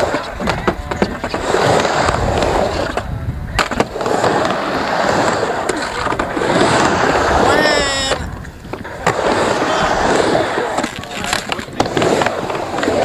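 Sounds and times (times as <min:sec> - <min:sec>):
skateboard clacks: 0:00.0 - 0:13.0
skateboard wheels rolling: 0:00.0 - 0:13.0.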